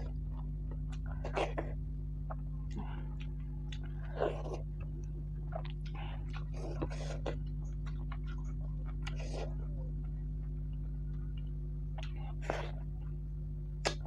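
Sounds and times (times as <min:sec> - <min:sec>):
crunchy bites and chewing: 0:00.0 - 0:13.2, 0:13.8 - 0:14.0.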